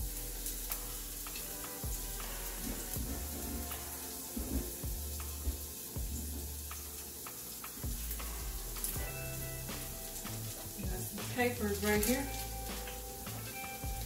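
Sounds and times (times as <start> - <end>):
background music with bass: 0.0 - 14.0
crackles and pops: 0.0 - 14.0
oil sizzling in a frying pan: 0.0 - 14.0.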